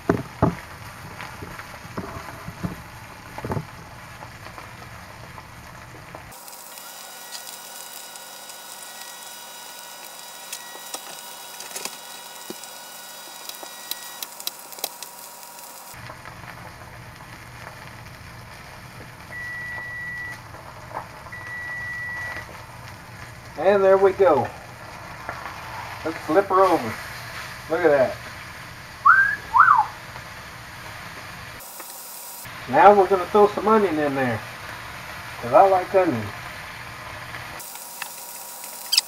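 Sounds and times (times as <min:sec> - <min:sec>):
steak sizzling in skillet: 0:00.0 - 0:39.0.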